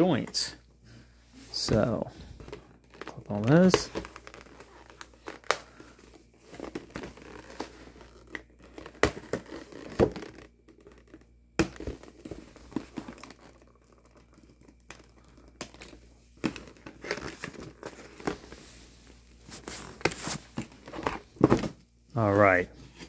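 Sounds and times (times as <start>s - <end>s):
cardboard and plastic crinkling: 1.6s - 21.8s.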